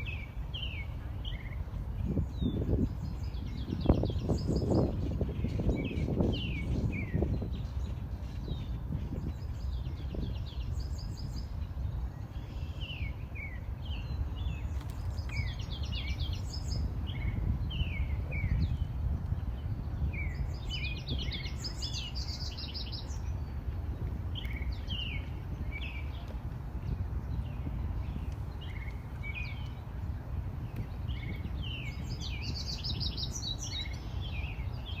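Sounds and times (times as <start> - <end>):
low background rumble: 0.0 - 35.0
songbirds chirping and singing: 0.0 - 35.0.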